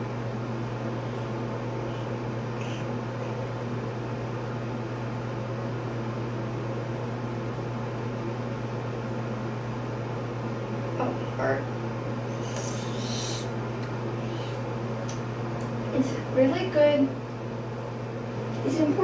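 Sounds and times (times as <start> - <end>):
exhaust fan humming: 0.0 - 19.0.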